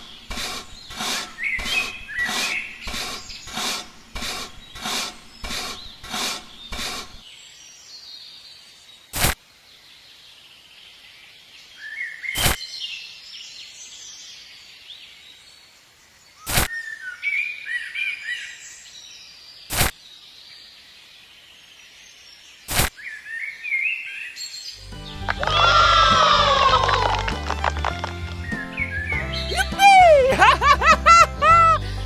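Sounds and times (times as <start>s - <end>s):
birds chirping: 0.0s - 31.7s.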